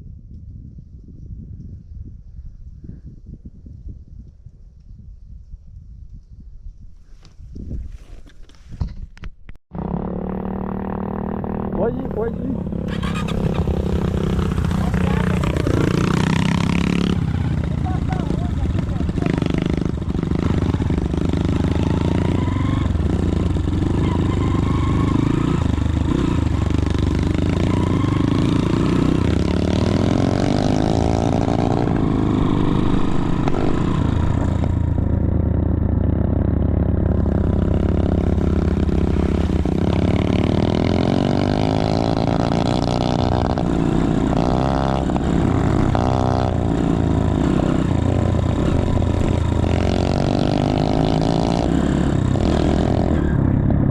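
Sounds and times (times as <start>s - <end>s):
motorcycle engine revving: 9.7s - 53.9s.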